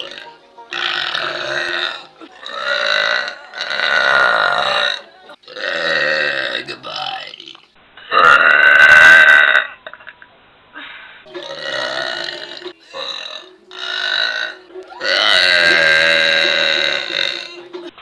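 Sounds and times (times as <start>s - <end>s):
person burping loudly: 0.0s - 10.2s, 11.3s - 17.6s.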